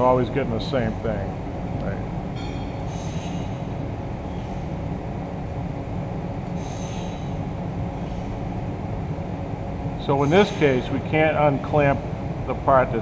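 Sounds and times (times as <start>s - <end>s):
low shop drone: 0.0s - 13.0s.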